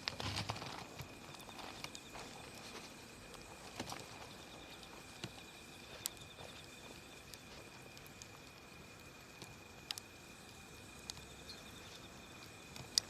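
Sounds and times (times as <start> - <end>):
campfire crackling and popping: 0.0 - 13.0
thin steady high tone: 0.7 - 13.0.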